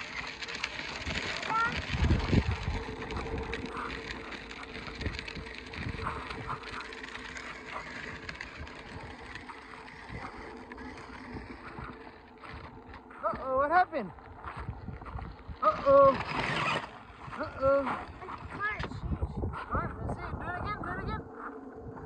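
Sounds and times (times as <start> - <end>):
electric toy motor humming: 0.0 - 21.2
plastic wheels rolling over gravel: 0.0 - 21.2.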